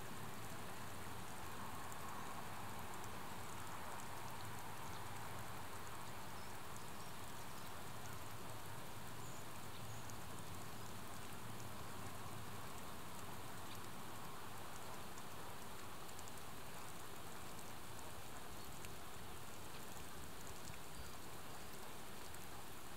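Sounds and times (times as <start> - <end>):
faint outdoor ambience hiss: 0.0 - 22.9
tiny high ticks: 0.2 - 22.9.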